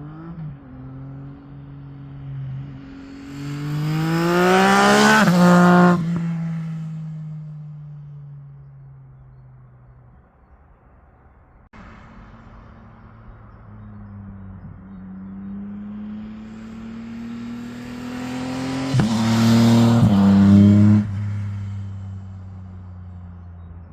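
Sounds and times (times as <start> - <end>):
motorcycle accelerating past: 0.0 - 8.5, 12.3 - 23.3.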